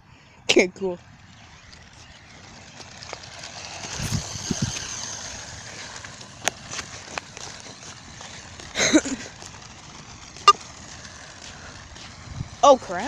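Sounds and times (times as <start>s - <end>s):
wheels rattling on ground: 0.5s - 13.0s
electric motor whining: 1.0s - 13.0s.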